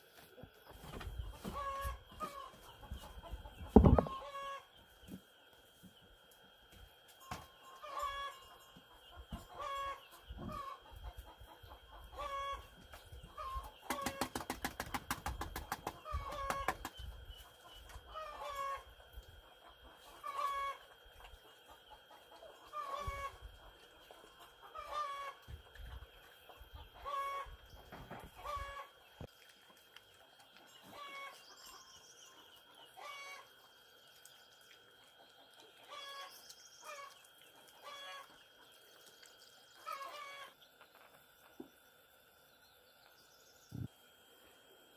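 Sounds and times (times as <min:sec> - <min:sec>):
chickens clucking: 0:00.6 - 0:05.4, 0:07.2 - 0:29.3, 0:30.0 - 0:34.0, 0:34.9 - 0:41.8.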